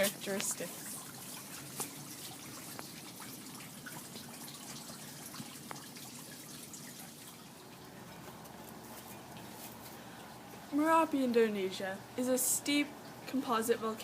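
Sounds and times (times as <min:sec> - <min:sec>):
trickle of running water: 0:00.0 - 0:14.0
water drips: 0:00.0 - 0:14.0.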